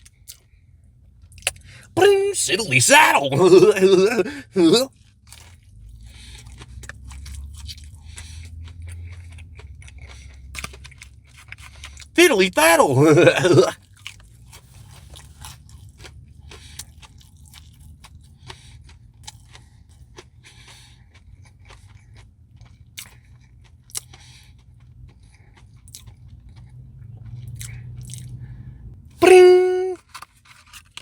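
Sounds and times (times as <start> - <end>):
chewing and mouth sounds: 1.3 - 28.4.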